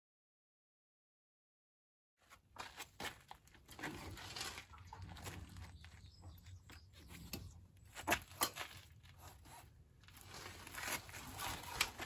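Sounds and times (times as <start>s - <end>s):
gritty scuffing underfoot: 2.2s - 12.0s.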